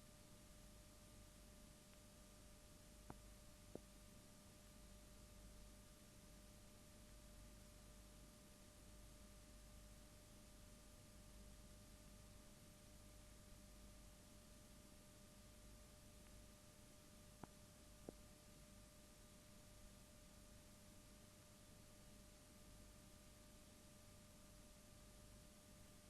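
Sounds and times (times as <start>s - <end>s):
faint hiss and hum: 0.0s - 26.0s.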